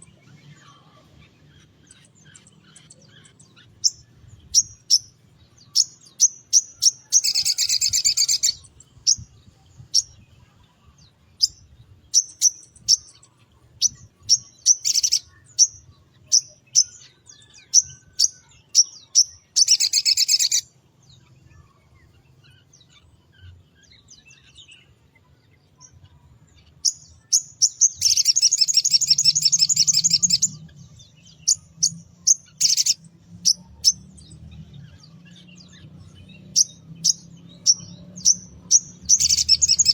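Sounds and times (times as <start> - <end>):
bird chirping and trilling: 1.4 - 10.7, 11.4 - 39.9.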